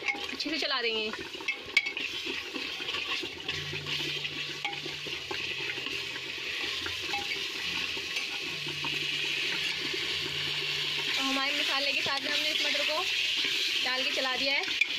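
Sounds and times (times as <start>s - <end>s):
food sizzling: 0.0s - 14.9s
metal spatula scraping a pot: 0.0s - 14.9s.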